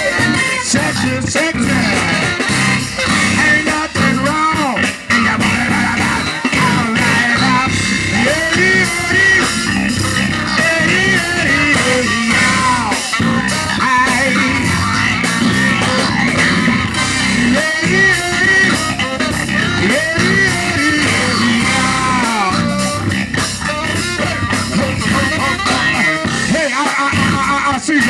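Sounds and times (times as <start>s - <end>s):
lead instrument bending pitch: 0.0s - 27.6s
live band playing funk: 0.0s - 28.0s.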